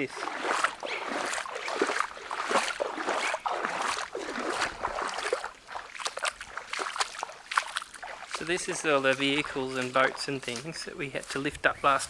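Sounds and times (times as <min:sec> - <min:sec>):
footsteps wading through water: 0:00.0 - 0:12.0.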